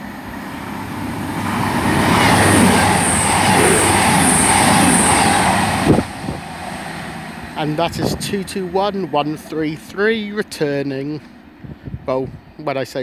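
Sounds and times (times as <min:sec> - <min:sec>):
train passing with high whine: 0:00.0 - 0:13.0.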